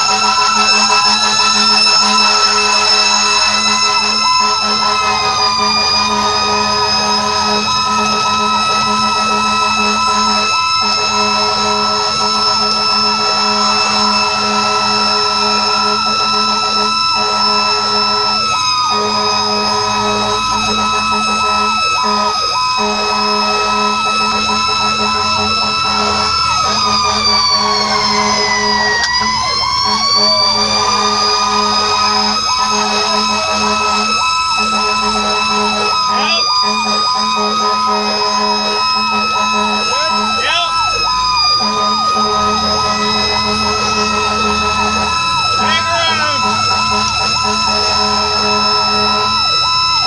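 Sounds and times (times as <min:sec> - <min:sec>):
choppy broken siren tones: 0:00.0 - 0:50.0
high steady siren tone: 0:00.0 - 0:50.0.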